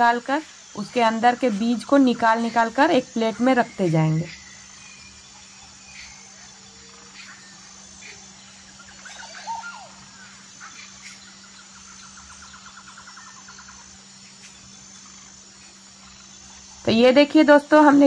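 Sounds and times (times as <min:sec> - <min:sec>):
birds chirping: 0:00.0 - 0:18.0
low steady hum: 0:00.0 - 0:18.0
rapid bird trill: 0:00.0 - 0:18.0.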